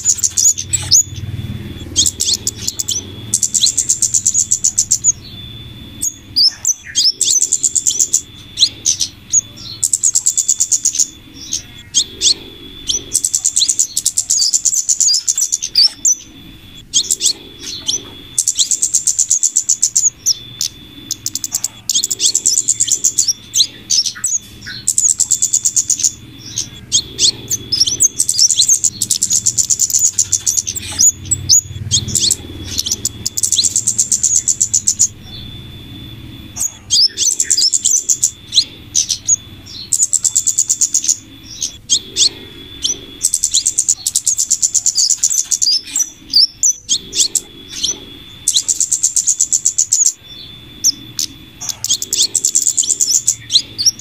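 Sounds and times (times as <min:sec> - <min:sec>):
high-pitched bird chattering ticks: 0:00.0 - 0:35.4, 0:36.5 - 0:54.0
faint steady high tone: 0:00.0 - 0:54.0.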